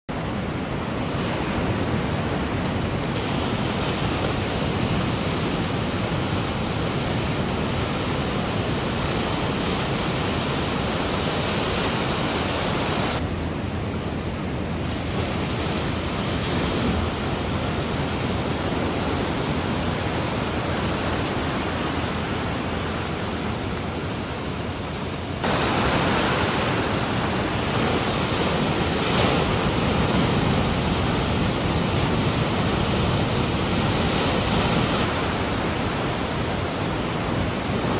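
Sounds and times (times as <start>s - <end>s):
ocean waves and surf: 0.0s - 37.9s
wind on microphone: 0.1s - 37.9s.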